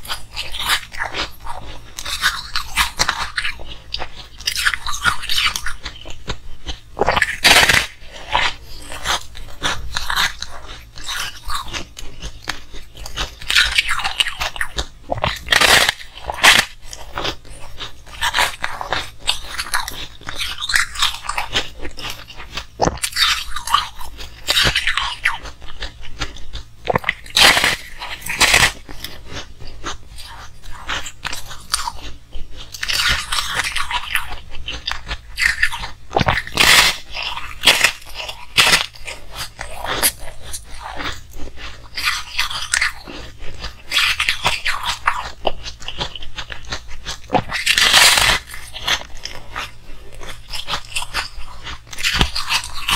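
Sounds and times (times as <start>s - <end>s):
crunching and chewing ice: 0.0s - 52.9s.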